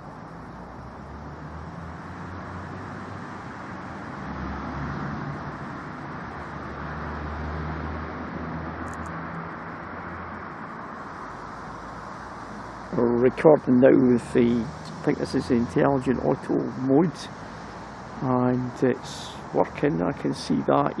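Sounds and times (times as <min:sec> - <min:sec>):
road traffic hum: 0:00.0 - 0:21.0
vehicles passing: 0:00.0 - 0:21.0.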